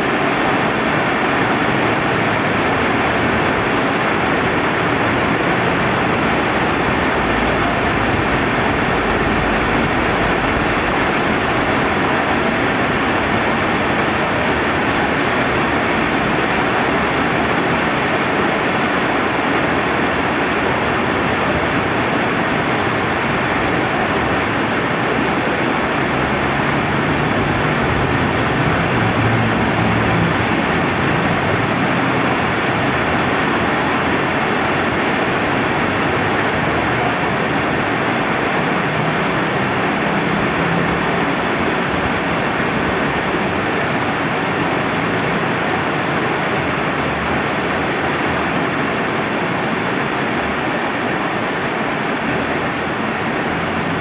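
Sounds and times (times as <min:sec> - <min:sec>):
heavy rain: 0:00.0 - 0:54.0
river water flowing: 0:00.0 - 0:54.0.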